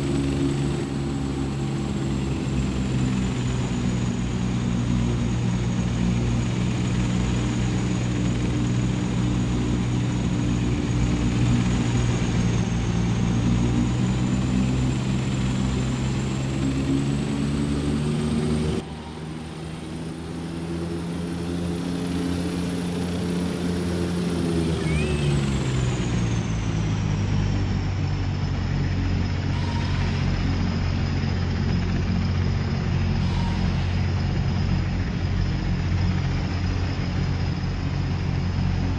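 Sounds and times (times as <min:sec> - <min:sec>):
aeroplane engine drone: 0:00.0 - 0:38.9.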